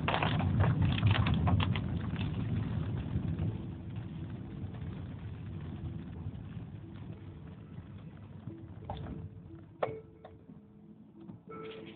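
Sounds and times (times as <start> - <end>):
engine and road rumble: 0.0 - 11.9
heavy rain on car roof: 0.0 - 11.9.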